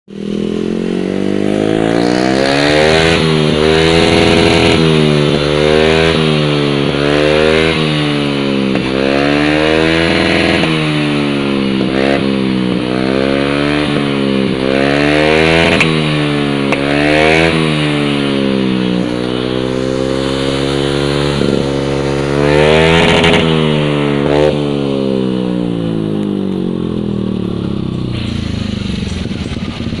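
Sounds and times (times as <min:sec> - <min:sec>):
scooter engine revving: 0:00.1 - 0:30.0.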